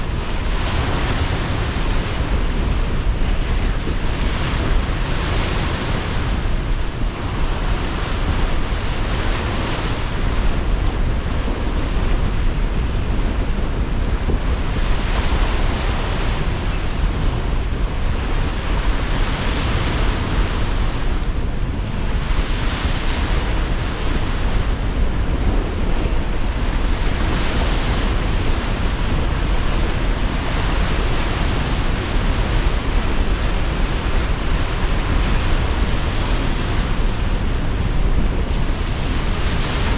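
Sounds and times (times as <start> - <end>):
deep wind rumble: 0.0 - 39.9
waves washing in: 0.0 - 39.9.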